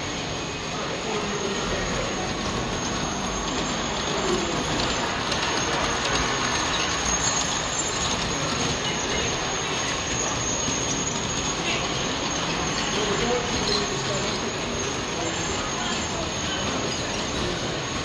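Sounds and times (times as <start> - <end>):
model train wheels clicking: 0.0 - 18.0.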